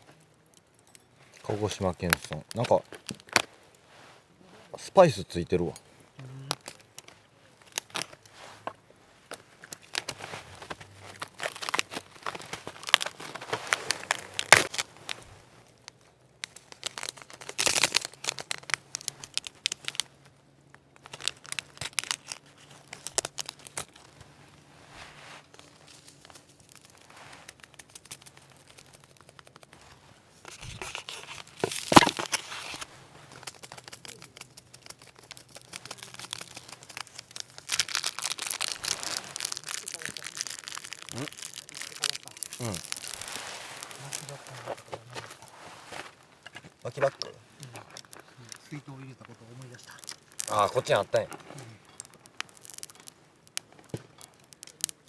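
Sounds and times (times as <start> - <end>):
plastic packaging rustling and tearing: 1.2 - 4.1, 6.5 - 55.0.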